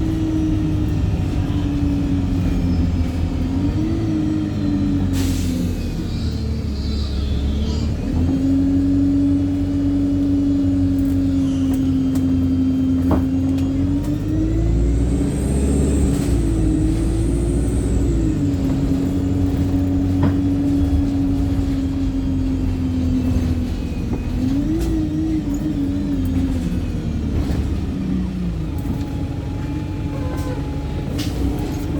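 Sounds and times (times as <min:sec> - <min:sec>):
bus engine and drivetrain whine: 0:00.0 - 0:31.9
road rumble: 0:00.0 - 0:31.9.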